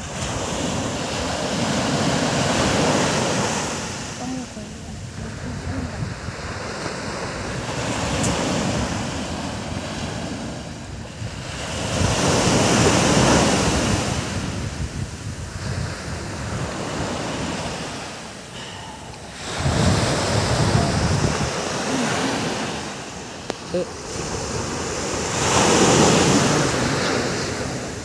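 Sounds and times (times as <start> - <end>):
surf washing onto beach: 0.0 - 28.0
wind buffeting microphone: 0.0 - 28.0.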